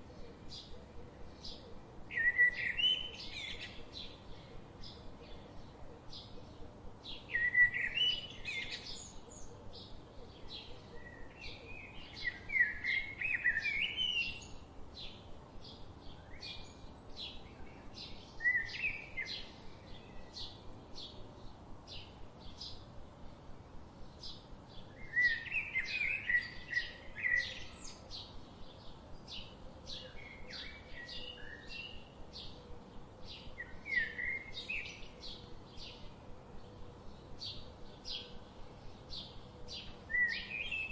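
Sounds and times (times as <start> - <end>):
bird warbling song: 0.0 - 22.9, 24.0 - 40.9
faint background hiss: 0.0 - 40.9.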